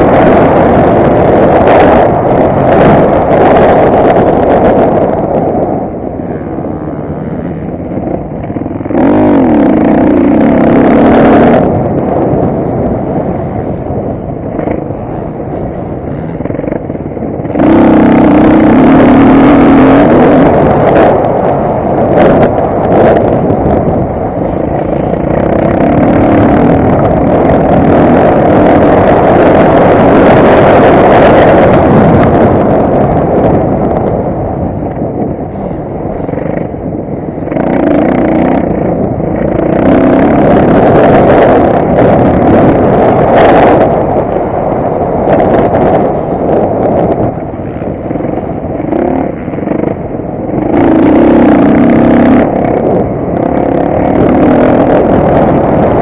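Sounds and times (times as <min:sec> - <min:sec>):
motocross motorcycle engine revving: 0:00.0 - 0:13.8, 0:14.4 - 0:34.1, 0:34.8 - 0:44.5, 0:45.2 - 0:56.0.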